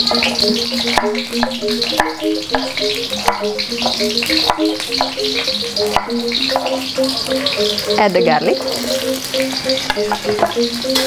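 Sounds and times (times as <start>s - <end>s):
background music: 0.0s - 11.0s
shallots sizzling in hot oil: 0.0s - 11.0s.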